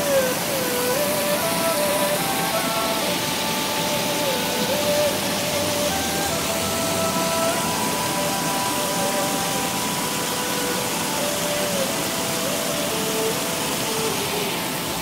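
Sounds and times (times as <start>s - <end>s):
water rushing over weir: 0.0s - 15.0s.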